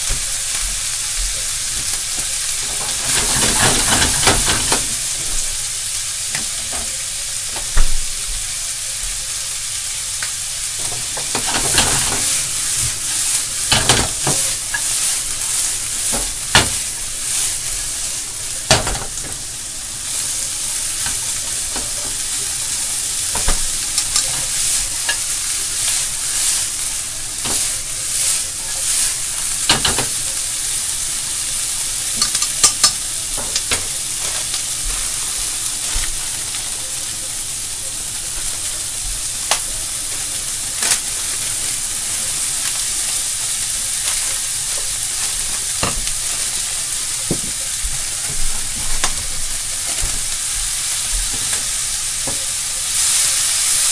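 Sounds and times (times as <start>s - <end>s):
food sizzling in frying pan: 0.0s - 53.9s.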